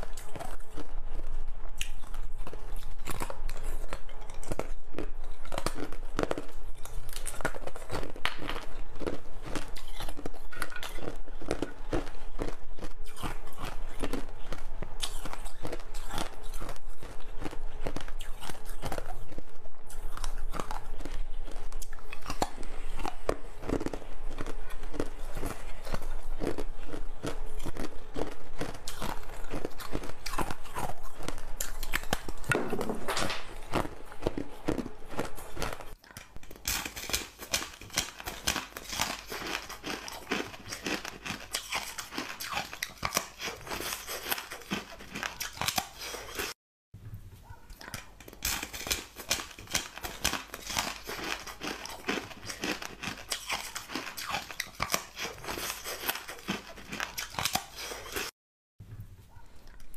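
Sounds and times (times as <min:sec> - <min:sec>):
crunchy chewing: 0:00.0 - 0:46.6, 0:47.4 - 0:58.4, 0:59.1 - 0:59.9.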